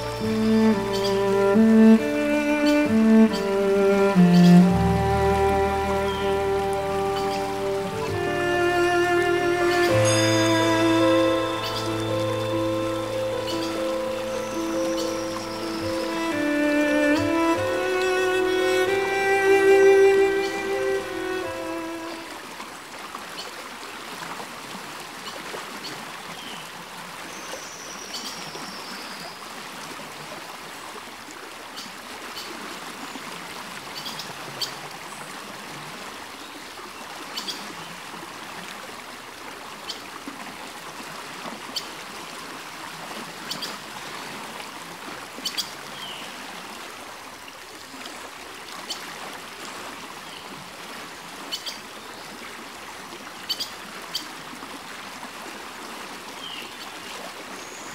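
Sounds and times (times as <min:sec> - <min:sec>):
creek running over stones: 0:00.0 - 0:57.9.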